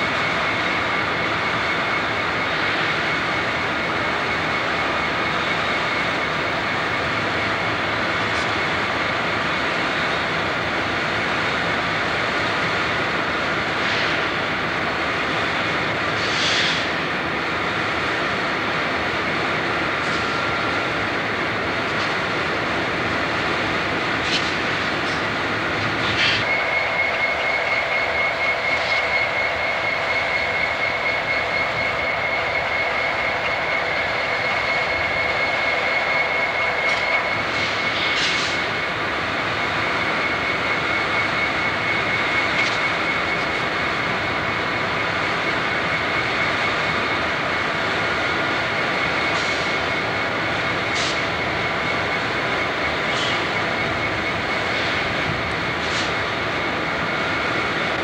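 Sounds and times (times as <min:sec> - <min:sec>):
high steady whine: 0:00.0 - 0:58.0
locomotive engines roaring: 0:00.0 - 0:58.0.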